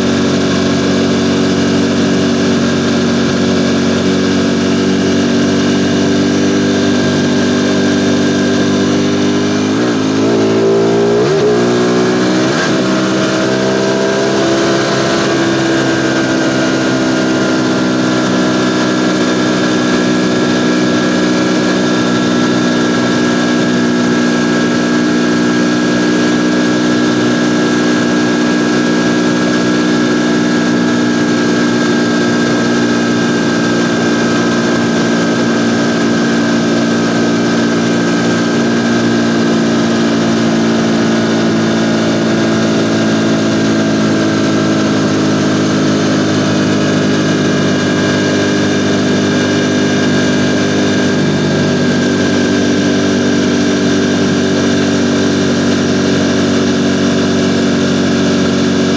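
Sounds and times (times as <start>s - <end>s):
motorcycle engine running steadily: 0.0s - 58.9s.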